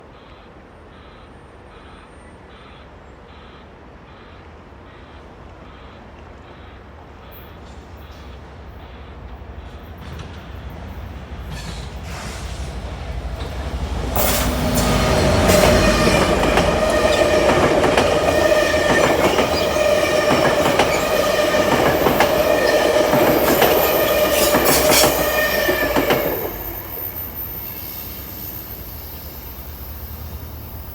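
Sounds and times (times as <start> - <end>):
passing diesel train: 0.0 - 30.9.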